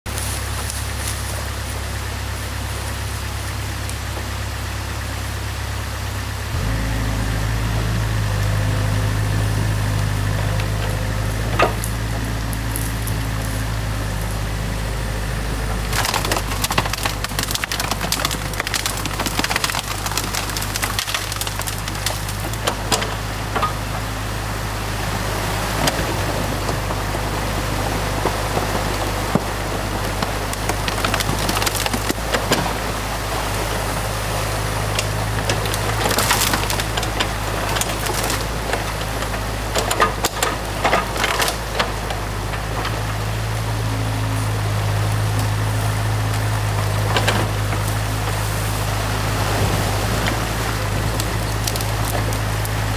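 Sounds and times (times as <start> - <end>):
sticks and branches cracking: 0.1 - 2.5, 9.9 - 14.6, 15.7 - 24.0, 25.8 - 52.9
excavator diesel engine hum: 0.1 - 52.9.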